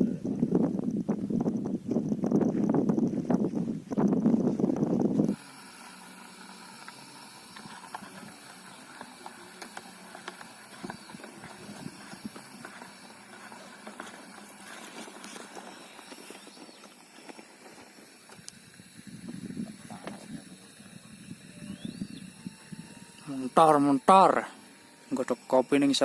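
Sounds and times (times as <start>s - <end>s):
faint steady hiss: 3.6s - 26.0s.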